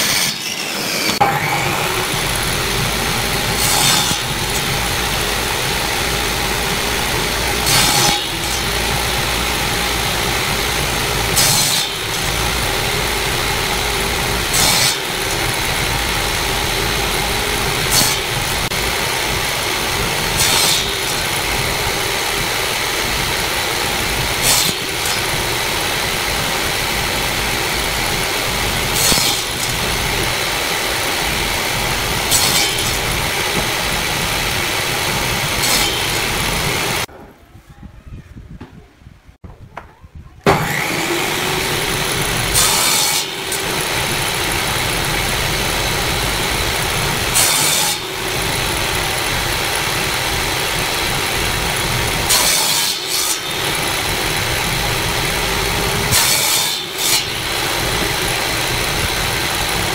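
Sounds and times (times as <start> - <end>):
table saw cutting wood: 0.0 - 37.1, 40.5 - 59.9.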